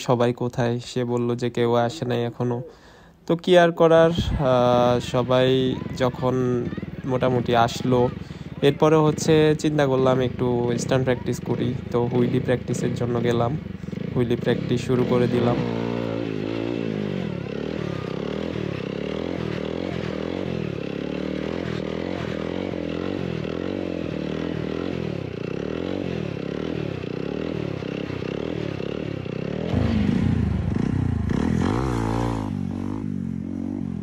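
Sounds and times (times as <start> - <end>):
motorcycle engine revving: 3.9 - 34.0.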